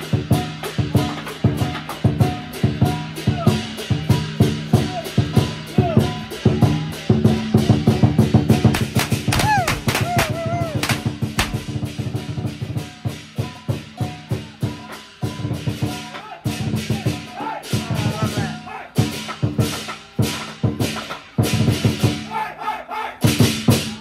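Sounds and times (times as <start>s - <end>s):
fast drum beat: 0.0s - 22.3s, 23.2s - 24.0s.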